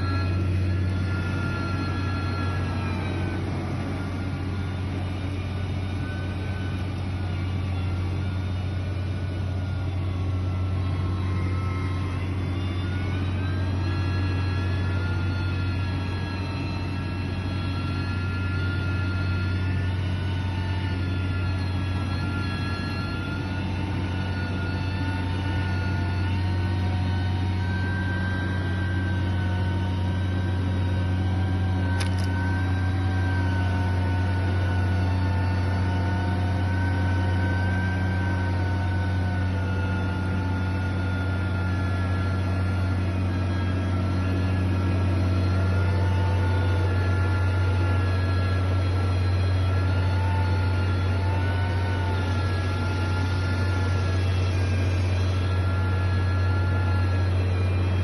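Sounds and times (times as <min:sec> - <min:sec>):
heavy machinery diesel engine: 0:00.0 - 0:58.0
wavering whine: 0:00.0 - 0:58.0.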